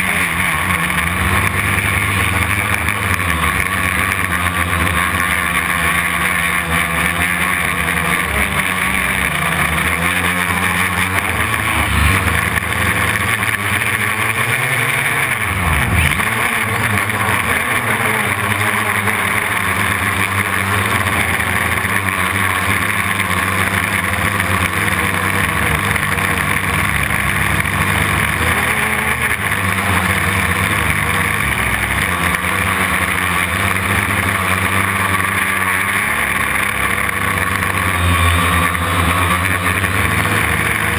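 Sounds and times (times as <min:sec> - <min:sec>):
quadcopter motors buzzing whine: 0:00.0 - 0:40.9.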